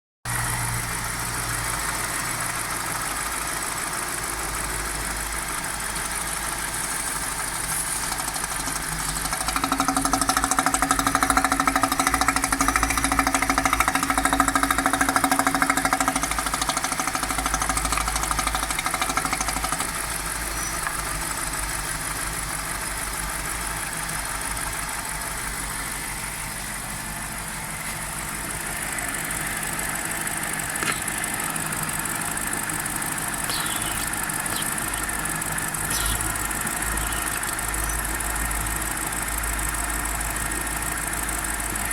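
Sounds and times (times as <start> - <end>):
car engine idling: 0.3 - 41.9.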